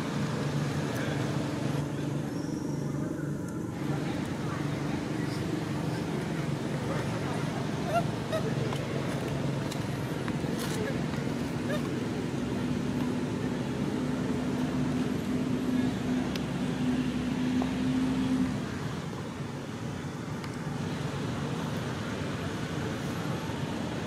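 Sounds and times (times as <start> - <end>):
background traffic rumble: 0.0 - 24.0.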